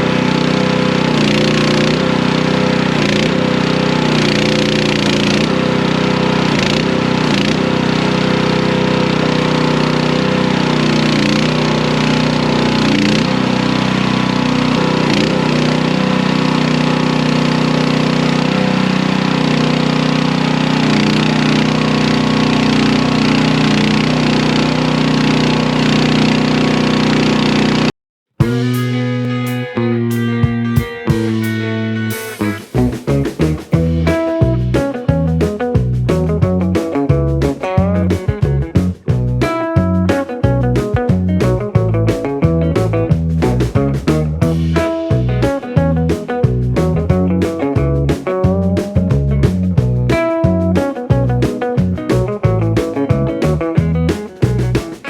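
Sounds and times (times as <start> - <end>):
skid steer engine running: 0.0 - 27.9, 31.1 - 55.0.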